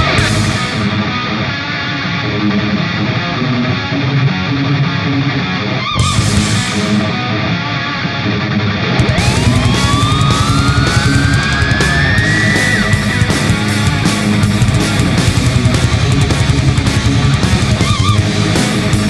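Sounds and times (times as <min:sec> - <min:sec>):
rock music with electric guitar: 0:00.0 - 0:19.0.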